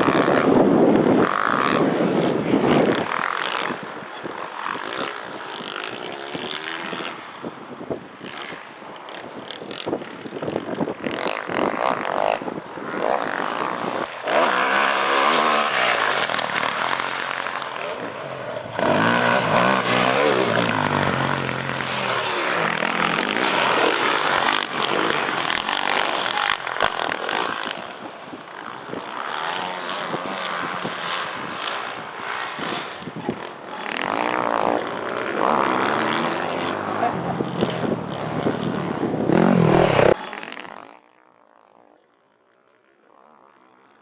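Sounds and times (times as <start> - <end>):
dirt bike engine revving: 0.0 - 7.4, 8.2 - 41.0.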